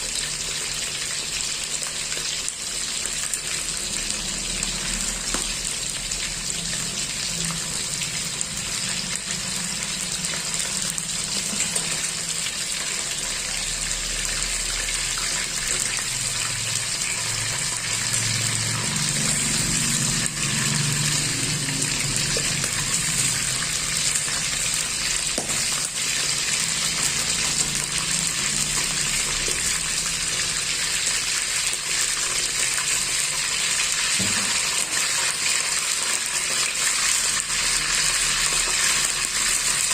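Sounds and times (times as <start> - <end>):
chicken sizzling in a pan: 0.0 - 39.9.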